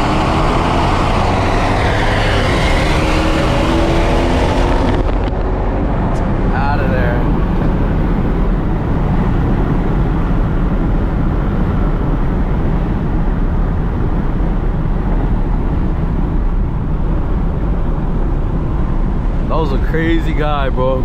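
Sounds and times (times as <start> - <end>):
loud deep exhaust drone: 0.0 - 21.0.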